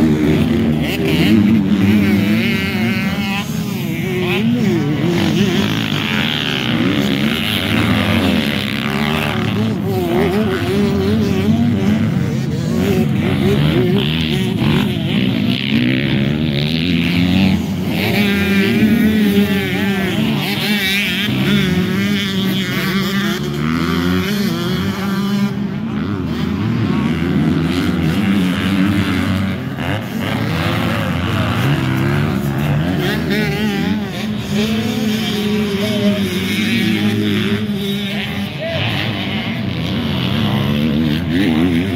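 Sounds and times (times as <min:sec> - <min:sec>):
dirt bike engines revving: 0:00.0 - 0:41.9.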